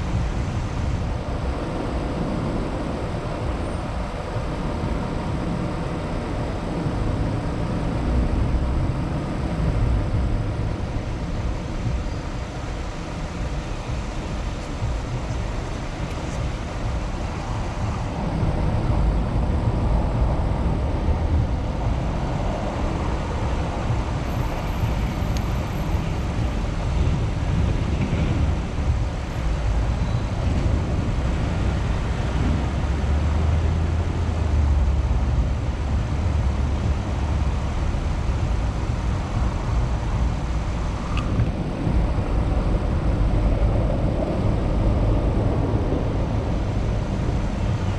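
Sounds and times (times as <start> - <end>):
city street traffic rumble: 0.0 - 47.9.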